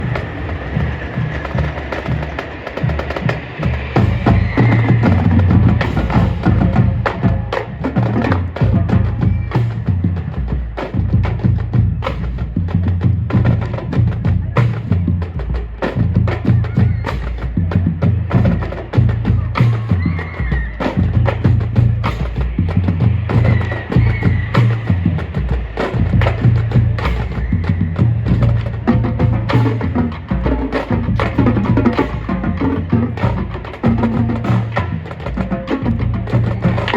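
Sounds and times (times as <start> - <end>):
pitched bass drums: 0.0 - 36.9.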